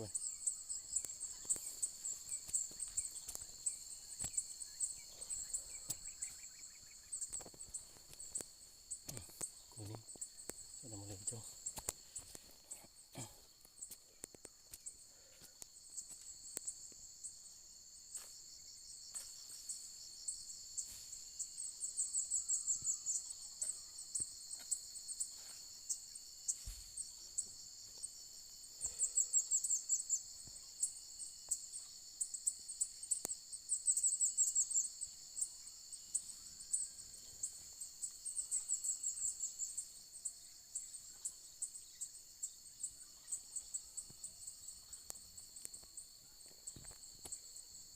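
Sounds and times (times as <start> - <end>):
insects high-pitched drone: 0.0 - 47.9
pulsing insect trill: 0.0 - 47.9.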